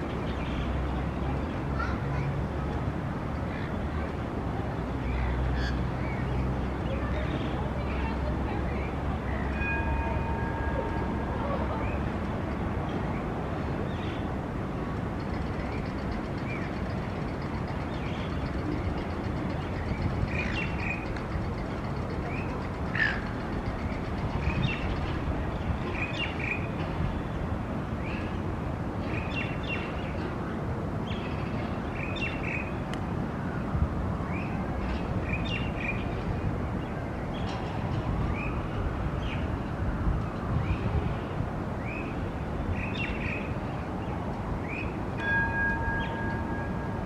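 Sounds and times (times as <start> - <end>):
city traffic hum: 0.0 - 47.0.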